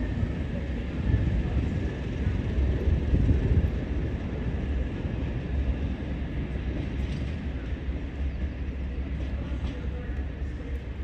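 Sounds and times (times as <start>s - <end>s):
diesel locomotive rumble: 0.0s - 11.0s.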